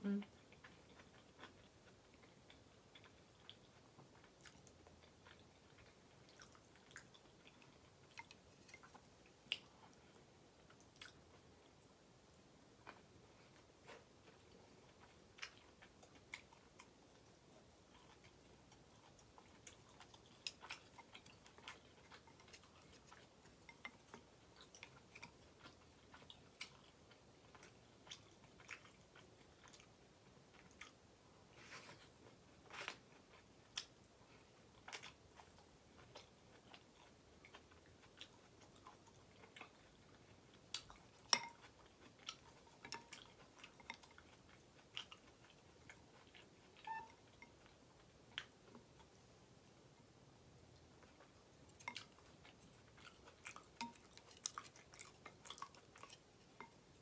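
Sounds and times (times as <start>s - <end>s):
person chewing noodles: 0.0s - 49.4s, 50.5s - 57.0s.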